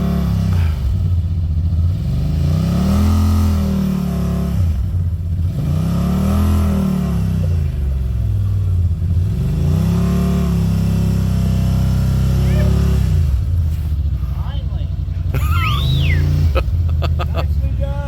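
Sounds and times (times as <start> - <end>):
utility vehicle engine revving: 0.0 - 18.0.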